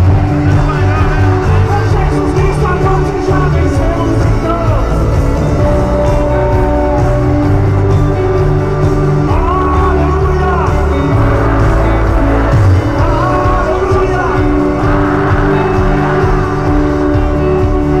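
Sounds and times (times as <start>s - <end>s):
live worship band with singer: 0.0s - 18.0s.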